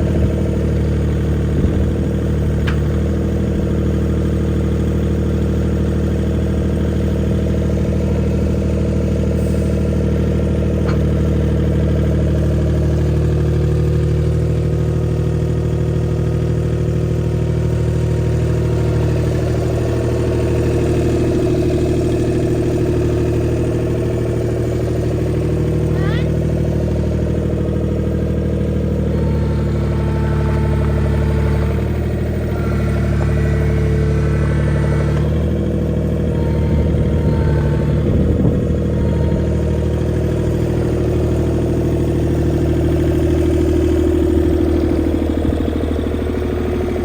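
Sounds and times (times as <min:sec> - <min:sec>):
skid steer engine idling: 0:00.0 - 0:47.0.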